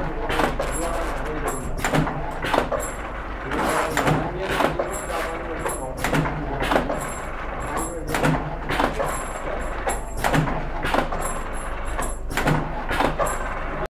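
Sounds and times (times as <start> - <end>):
packing machine clacking: 0.0 - 13.9.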